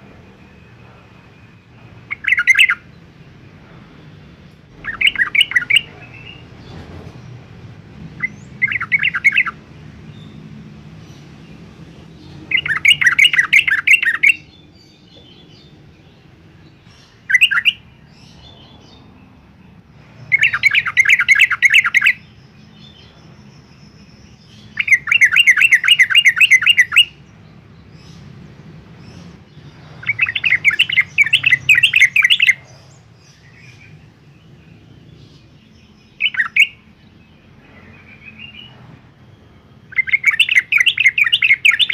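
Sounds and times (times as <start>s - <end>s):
bird singing warbled phrases: 0.4s - 41.9s.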